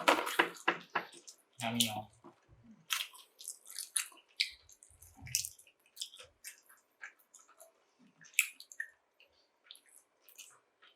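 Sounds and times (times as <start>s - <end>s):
chewing crispy chicken: 0.4s - 10.9s.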